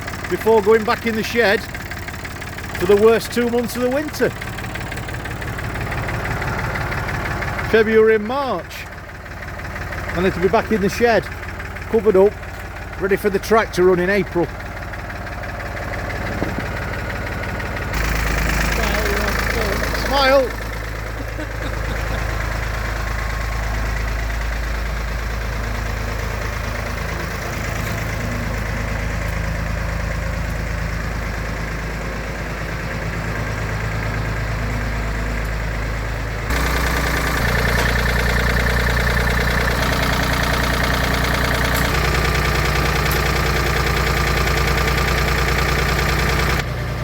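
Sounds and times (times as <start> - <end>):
tractor engine idling: 0.0 - 47.0.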